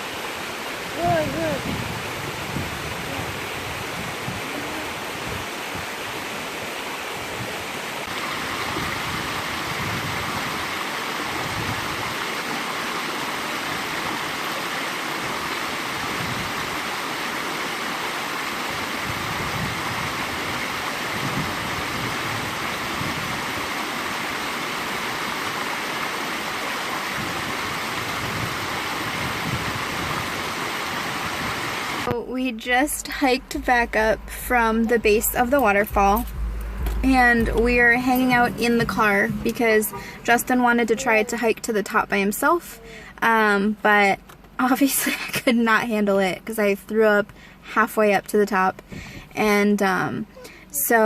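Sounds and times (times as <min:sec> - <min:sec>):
waterfall rushing: 0:00.0 - 0:43.4.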